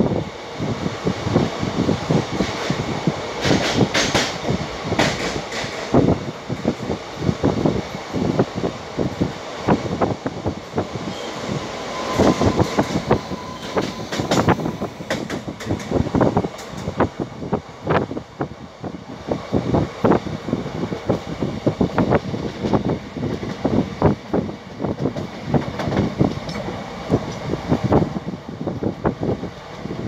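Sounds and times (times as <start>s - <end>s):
train wheels clattering on track: 0.0s - 30.0s.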